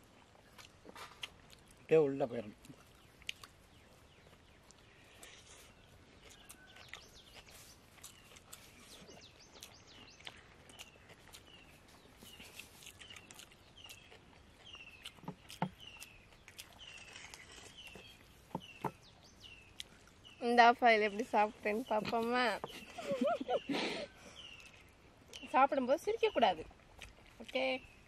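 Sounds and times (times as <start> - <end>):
faint outdoor background noise: 0.0 - 28.0
bird chirping repeatedly: 0.4 - 28.0.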